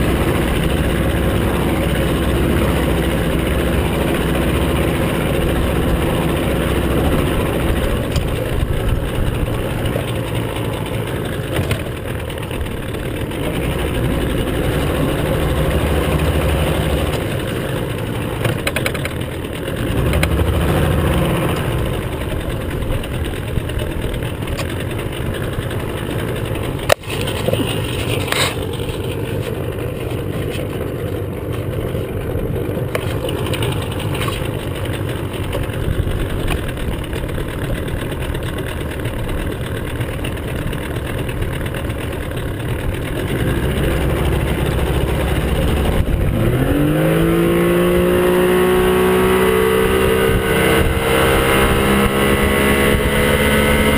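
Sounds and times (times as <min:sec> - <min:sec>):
outboard motor running: 0:00.0 - 0:53.9
water noise: 0:00.0 - 0:53.9.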